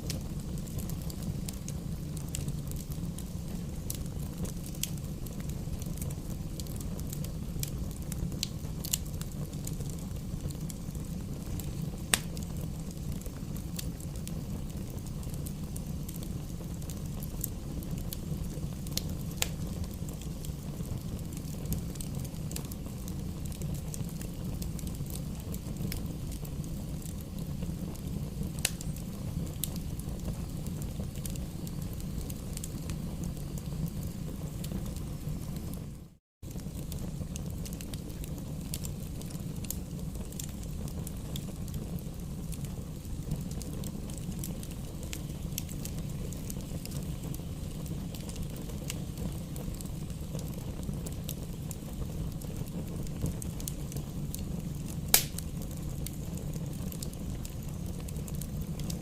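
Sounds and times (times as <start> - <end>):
campfire crackling and popping: 0.0 - 59.0
fire low rumble: 0.0 - 59.0.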